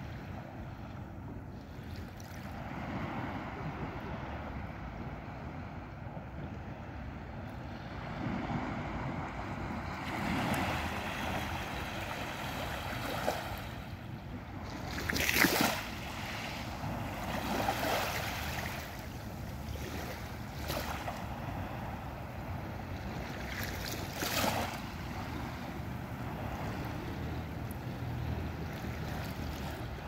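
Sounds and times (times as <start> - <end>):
waves lapping on a beach: 0.0 - 30.0.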